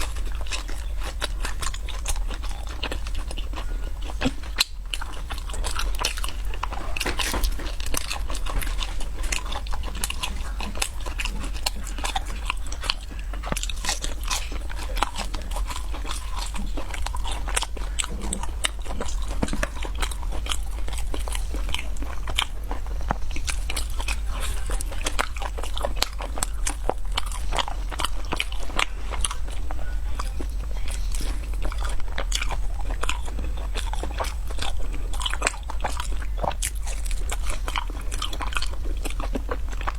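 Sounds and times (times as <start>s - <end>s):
crunching crispy snacks: 0.0s - 39.9s.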